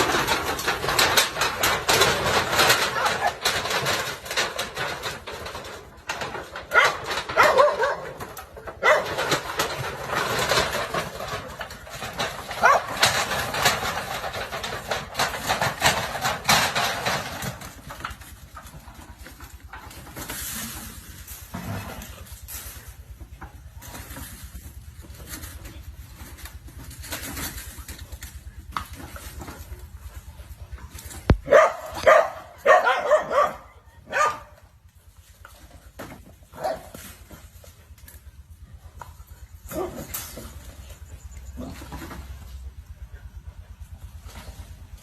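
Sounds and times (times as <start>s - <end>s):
dogs barking excitedly: 0.0s - 45.0s.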